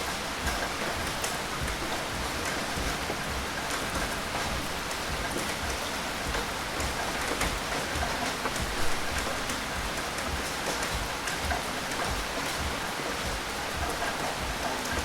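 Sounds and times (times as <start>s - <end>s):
droplet ticks: 0.0s - 15.0s
rain falling on a surface: 0.0s - 15.0s.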